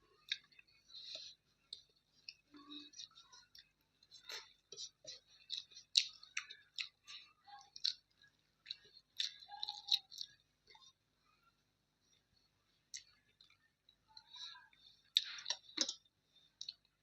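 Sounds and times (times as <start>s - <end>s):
person chewing food: 0.0s - 11.0s, 12.0s - 17.0s.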